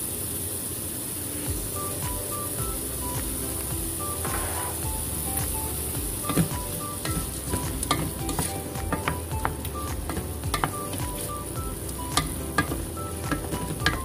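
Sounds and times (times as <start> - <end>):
food sizzling in a pot: 0.0 - 14.0
simple background melody: 1.5 - 14.0.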